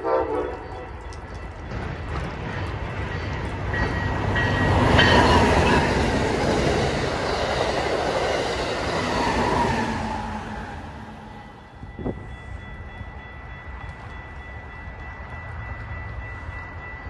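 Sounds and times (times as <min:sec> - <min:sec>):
train wheels rumbling over rails: 0:00.3 - 0:17.0.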